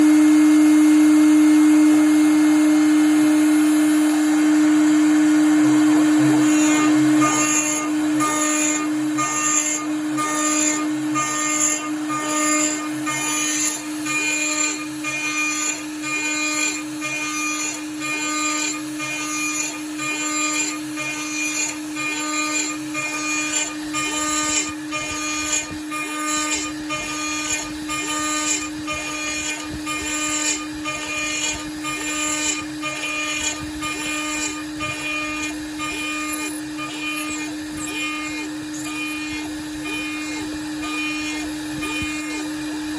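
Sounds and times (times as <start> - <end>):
end mill cutting aluminium: 0.0 - 42.9
milling spindle humming: 0.0 - 42.9.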